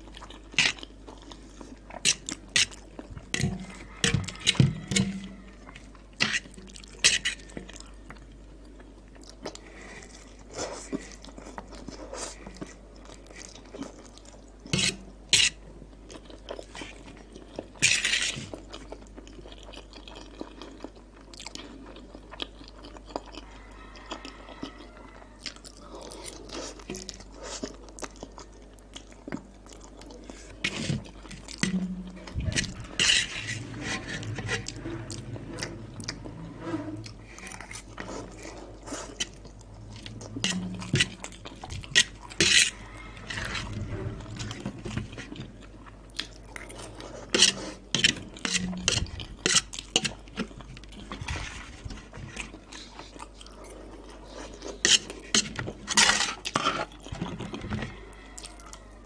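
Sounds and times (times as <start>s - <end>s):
person chewing: 0.0s - 36.4s, 37.0s - 58.9s.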